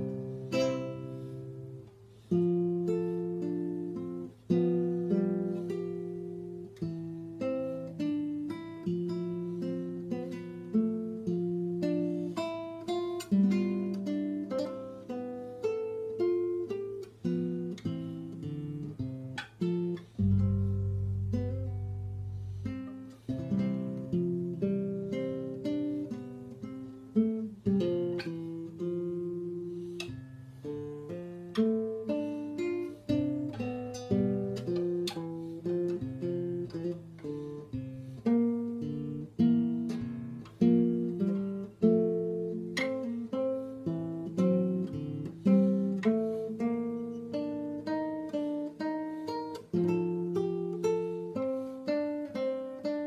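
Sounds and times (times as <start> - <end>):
fingerpicked acoustic guitar: 0.0 - 53.0.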